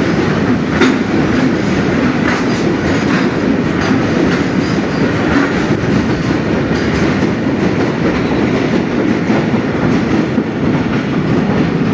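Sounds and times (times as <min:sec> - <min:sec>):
freight train rumbling past: 0:00.0 - 0:11.9.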